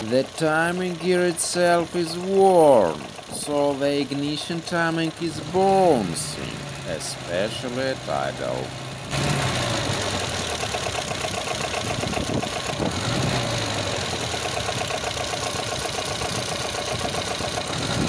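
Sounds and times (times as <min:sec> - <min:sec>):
car engine idling: 0:00.0 - 0:18.0
fast ticking engine clatter: 0:00.0 - 0:18.0.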